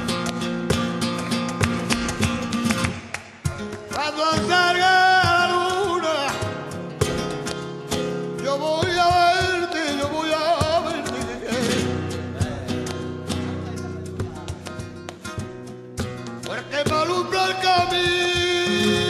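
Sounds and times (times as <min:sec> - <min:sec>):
flamenco guitar: 0:00.0 - 0:19.0
man singing flamenco: 0:00.0 - 0:19.0.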